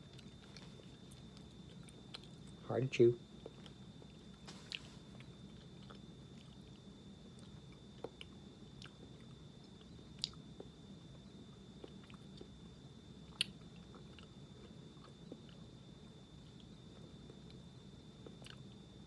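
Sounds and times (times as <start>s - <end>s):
mouth chewing gummy candy: 0.0s - 19.0s
room hum: 0.0s - 19.0s.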